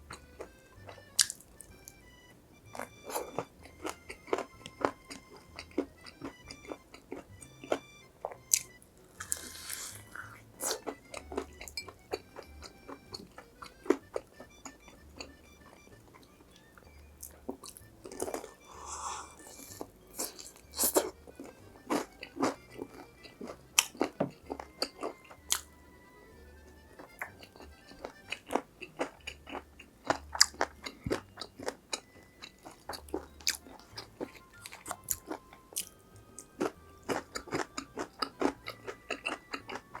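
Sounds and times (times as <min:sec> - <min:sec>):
crunching and chewing fried food: 0:00.0 - 0:40.0
quiet background music: 0:00.0 - 0:40.0.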